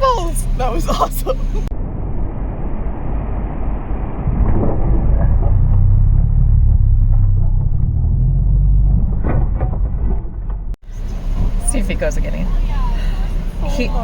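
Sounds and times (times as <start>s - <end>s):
off-road vehicle engine rumble: 0.0s - 14.0s.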